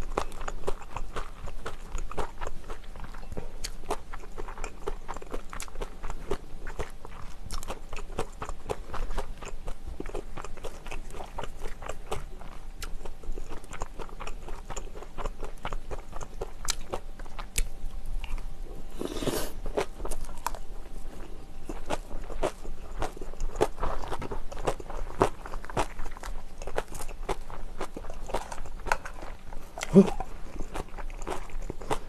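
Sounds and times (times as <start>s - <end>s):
crunchy chewing: 0.0s - 32.0s.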